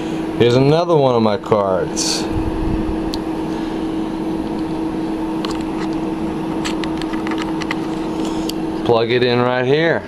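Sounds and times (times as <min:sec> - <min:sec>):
fan hum: 0:00.0 - 0:10.0.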